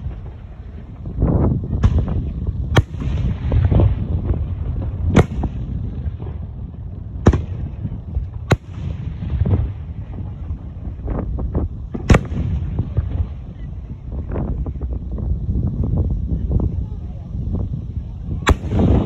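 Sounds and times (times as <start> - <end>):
low rumble of booms: 0.0 - 19.0.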